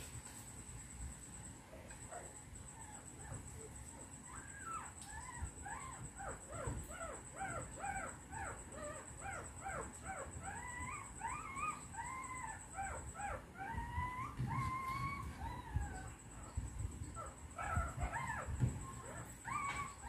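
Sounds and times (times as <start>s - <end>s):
puppies whining and squealing: 2.1s - 20.0s.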